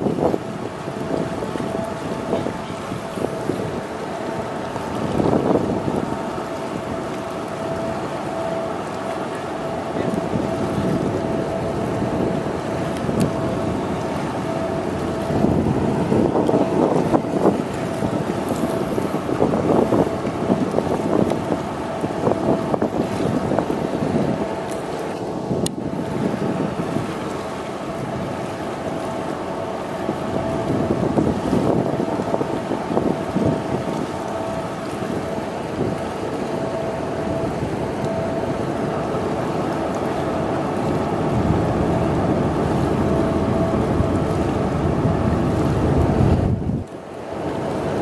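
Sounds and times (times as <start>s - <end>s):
faint constant tone: 0.0s - 48.0s
steady hum: 0.0s - 48.0s
wind buffeting microphone: 0.0s - 48.0s.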